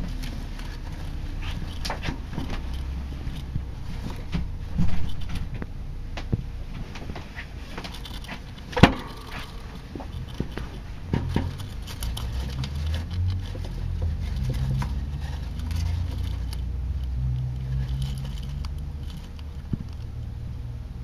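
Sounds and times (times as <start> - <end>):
hamster scratching: 0.0 - 5.7, 6.8 - 20.3.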